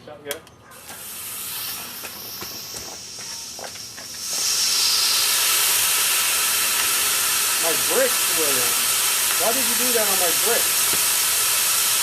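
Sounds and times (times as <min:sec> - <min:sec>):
rocket motor crackles: 0:00.8 - 0:12.0
rocket motor exhaust hissing: 0:00.8 - 0:12.0.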